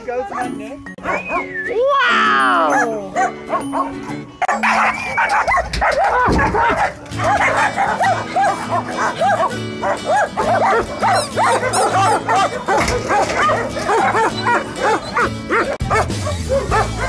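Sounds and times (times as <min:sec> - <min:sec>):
pack of dogs barking: 0:01.0 - 0:01.6, 0:02.6 - 0:17.0
background music with low beat: 0:02.9 - 0:17.0.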